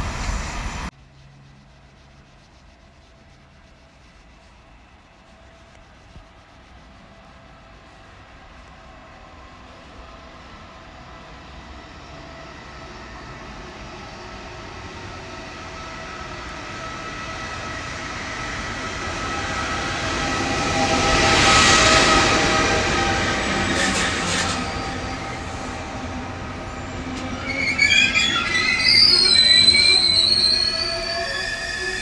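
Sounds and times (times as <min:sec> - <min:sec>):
electric train approaching: 0:00.0 - 0:00.9, 0:07.1 - 0:32.0.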